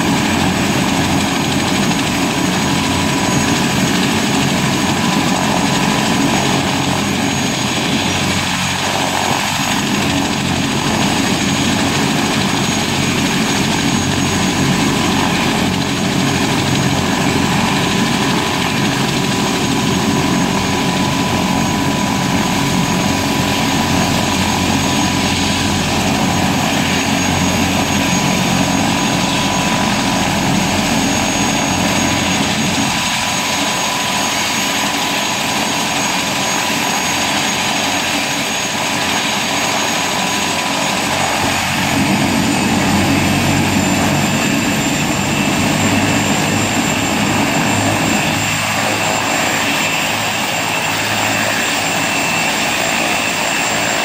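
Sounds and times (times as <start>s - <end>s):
helicopter turbine whine: 0.0s - 54.0s.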